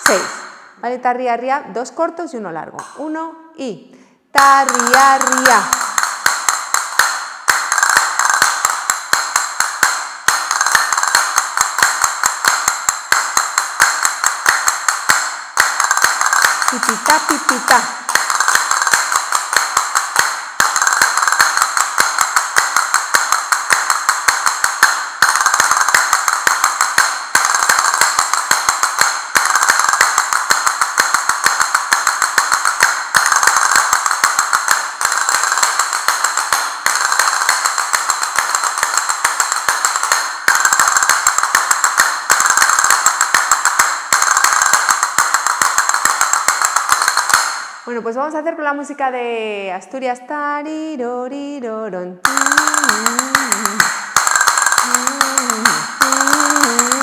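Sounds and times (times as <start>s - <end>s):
castanets clicking: 4.4s - 47.8s, 52.2s - 57.0s.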